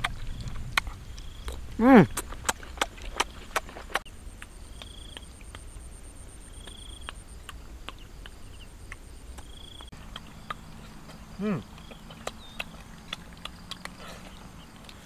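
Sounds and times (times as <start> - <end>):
grapes crunching when chewed: 0.0 - 5.6, 6.6 - 15.0.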